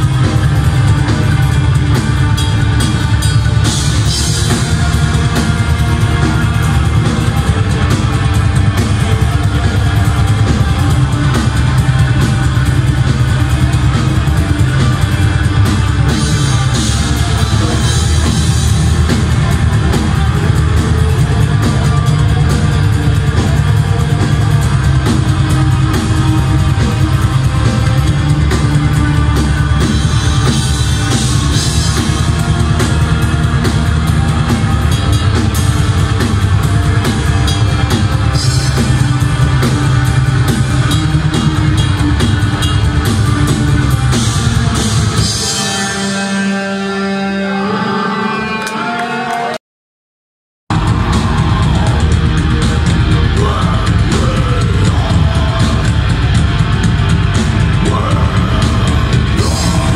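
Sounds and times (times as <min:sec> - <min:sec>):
fast drumming on drum kit: 0:00.0 - 0:45.9, 0:50.7 - 0:59.9
bass guitar: 0:00.0 - 0:49.6, 0:50.7 - 0:59.9
electric guitars: 0:00.0 - 0:49.6, 0:50.7 - 0:59.9.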